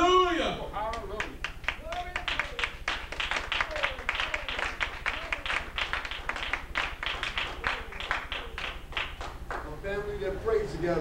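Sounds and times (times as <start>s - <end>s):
congregation clapping in rhythm: 0.8s - 10.1s.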